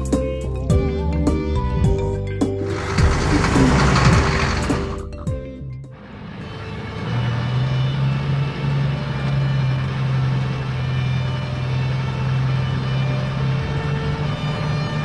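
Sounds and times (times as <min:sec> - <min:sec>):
cartoon truck engine hum: 0:00.7 - 0:15.0.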